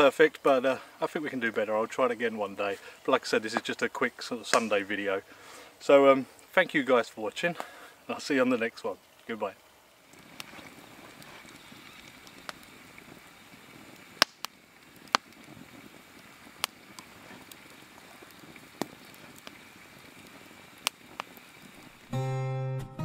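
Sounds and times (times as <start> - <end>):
embers crackling and hissing: 0.0 - 22.2
fire popping: 0.0 - 22.2.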